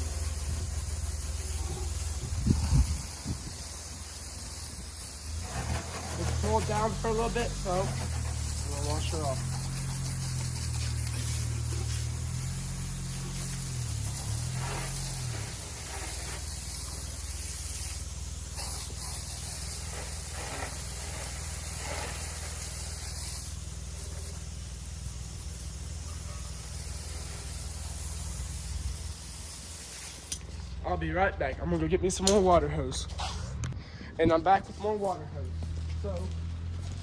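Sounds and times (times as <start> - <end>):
hose water spraying: 0.0 - 33.5
low steady rumble: 0.0 - 37.0.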